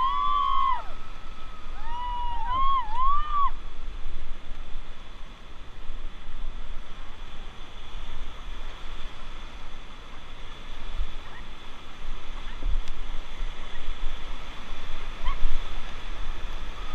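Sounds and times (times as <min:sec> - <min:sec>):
rushing whitewater rapids: 0:00.0 - 0:16.9
wind buffeting microphone: 0:00.0 - 0:16.9.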